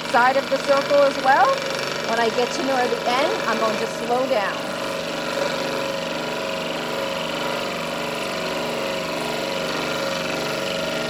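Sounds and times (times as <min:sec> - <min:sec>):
scroll saw cutting wood: 0:00.0 - 0:11.0.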